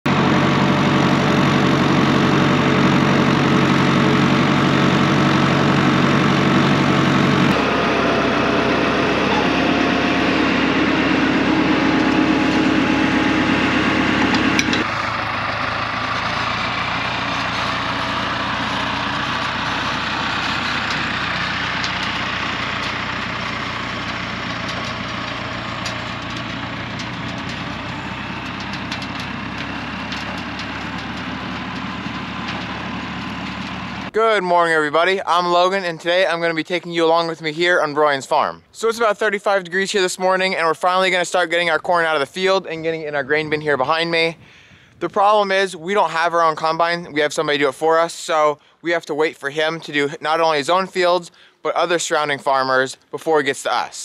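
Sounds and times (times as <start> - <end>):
tractor engine running: 0.1 - 53.9.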